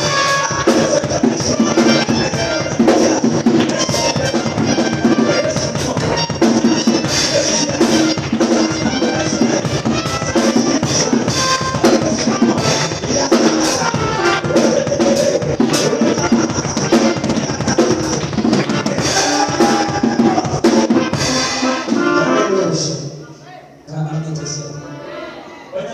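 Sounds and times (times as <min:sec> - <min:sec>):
drum kit playing: 0:00.0 - 0:23.0
band music: 0:00.0 - 0:25.9.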